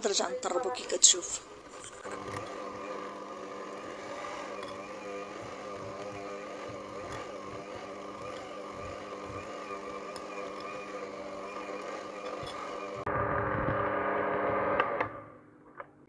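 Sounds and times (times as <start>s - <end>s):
electric hand mixer running: 0.0s - 15.4s.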